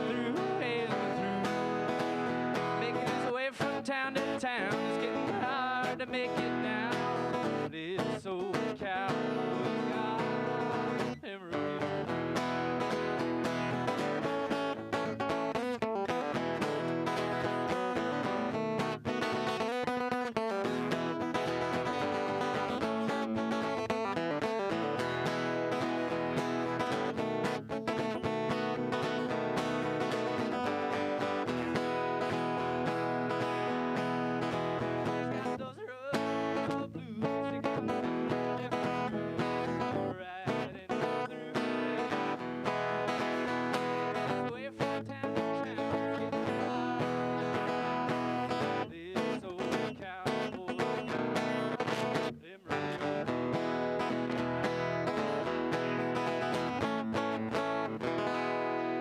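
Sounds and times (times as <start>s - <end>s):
country guitar strumming: 0.0s - 59.0s.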